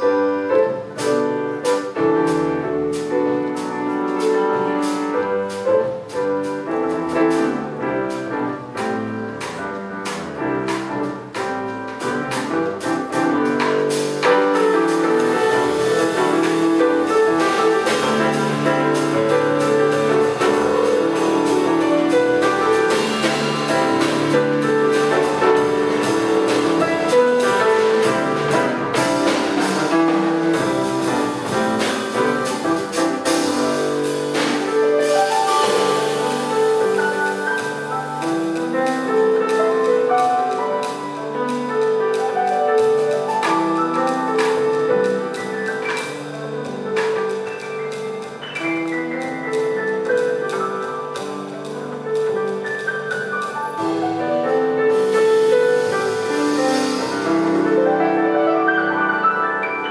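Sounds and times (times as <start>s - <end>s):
upright double bass: 0.0s - 58.9s
grand piano: 0.0s - 59.9s
drums and cymbals: 0.4s - 57.9s.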